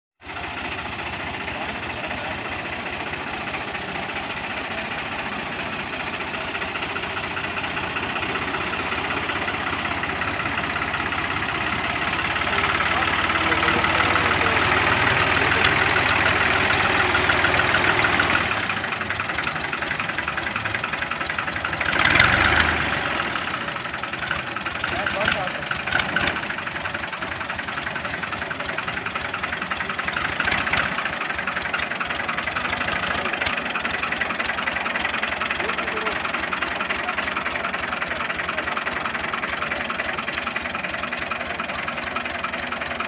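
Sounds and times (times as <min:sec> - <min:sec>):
tractor diesel engine running: 0:00.2 - 0:43.0.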